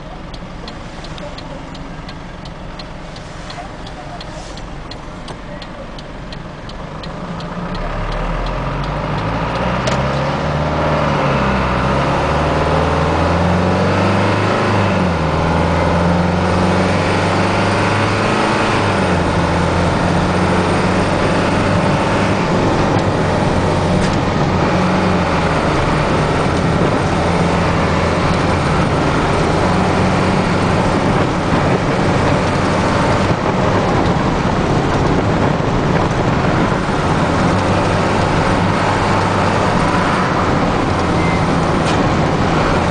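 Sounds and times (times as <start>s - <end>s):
truck engine accelerating: 0.0s - 42.9s.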